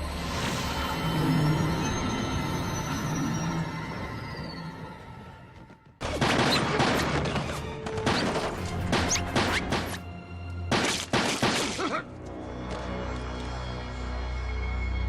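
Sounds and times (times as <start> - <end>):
dramatic music score: 0.0 - 15.0.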